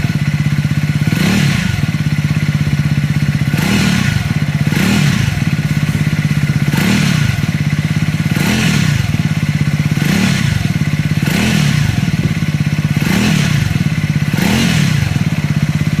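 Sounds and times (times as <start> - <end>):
engine clatter: 0.0 - 16.0
single-cylinder engine running: 0.0 - 16.0.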